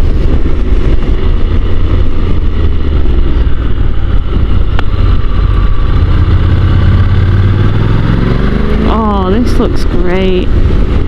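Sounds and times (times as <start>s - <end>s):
low rumble of wind: 0.0s - 11.0s
motorcycle engine running: 0.0s - 11.0s.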